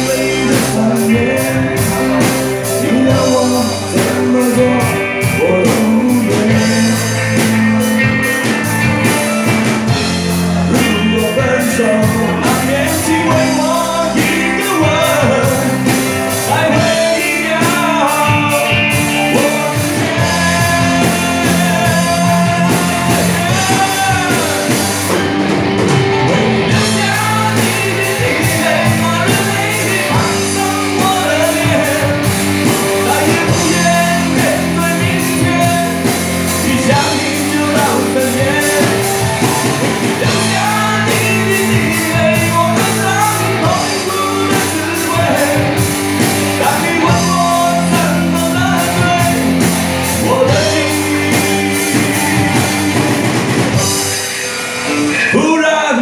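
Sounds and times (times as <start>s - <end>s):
person singing: 0.0s - 56.0s
rock band playing: 0.0s - 56.0s.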